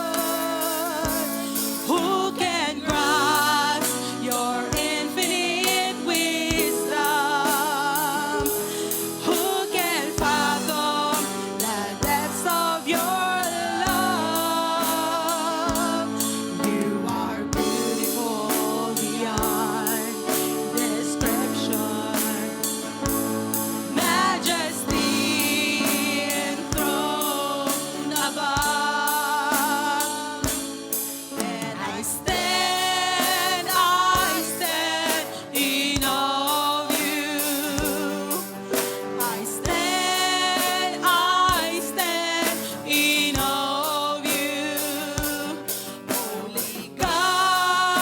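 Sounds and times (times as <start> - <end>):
steady drum beat: 0.0 - 48.0
voices singing gospel song: 0.0 - 48.0.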